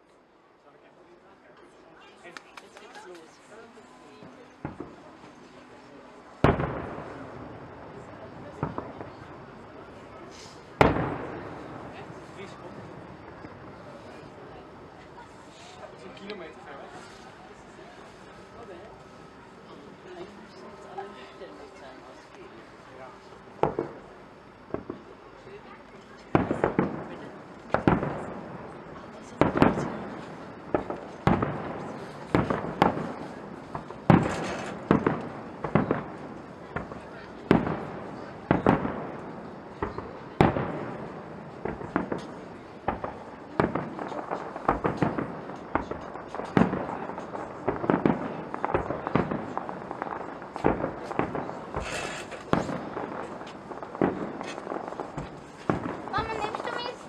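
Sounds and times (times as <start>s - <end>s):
fireworks bursting: 2.0s - 57.0s
fireworks crackling: 2.0s - 57.0s.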